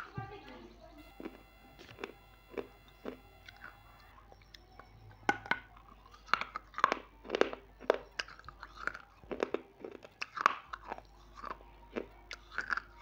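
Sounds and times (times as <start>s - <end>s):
crunchy chewing: 1.0s - 13.0s.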